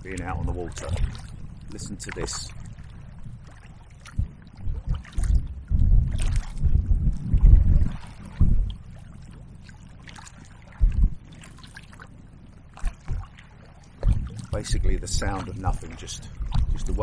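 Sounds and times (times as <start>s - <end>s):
small waves lapping against hull: 0.0s - 17.0s
wind gusting: 0.0s - 17.0s.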